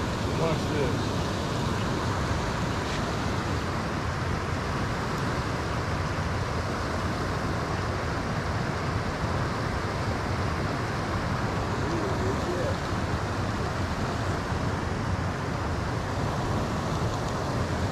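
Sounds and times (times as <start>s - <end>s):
steady outdoor rushing noise: 0.0s - 17.9s.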